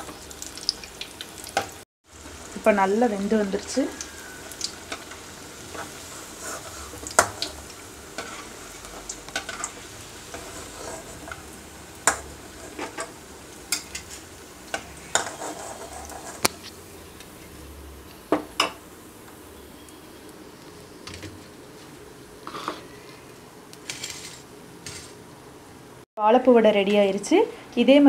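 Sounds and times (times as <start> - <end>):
fritters sizzling in hot oil: 0.0 - 25.4.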